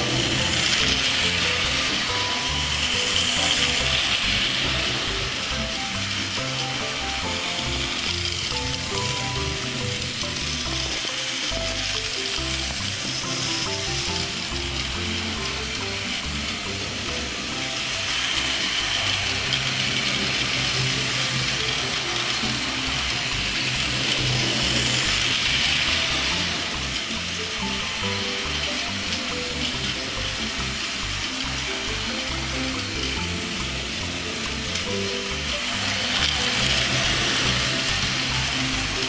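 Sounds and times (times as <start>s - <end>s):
toy train motor whirring: 0.0s - 39.0s.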